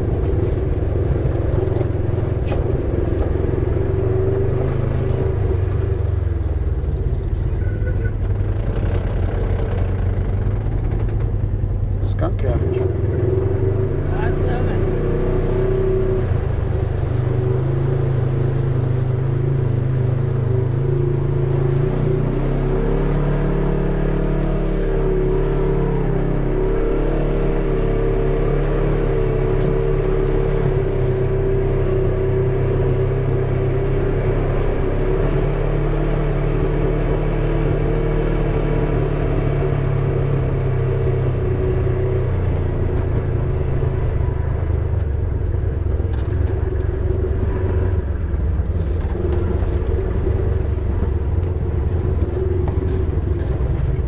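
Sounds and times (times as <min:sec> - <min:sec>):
off-road vehicle engine drone: 0:00.0 - 0:54.0.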